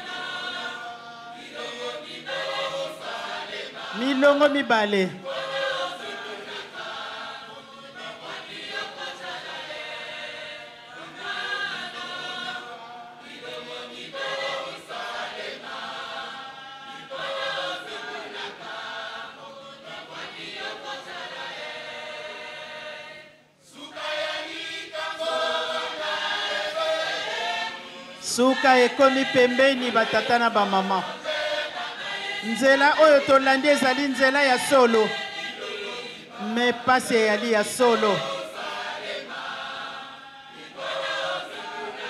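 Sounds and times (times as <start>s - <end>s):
choir singing a hymn: 0.0s - 42.0s.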